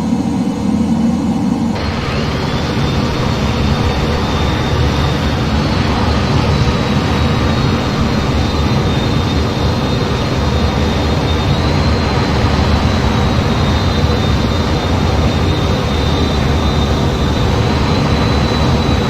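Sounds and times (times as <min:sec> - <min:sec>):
high engine whine: 0:00.0 - 0:19.0
jet engines rumbling: 0:00.0 - 0:19.0.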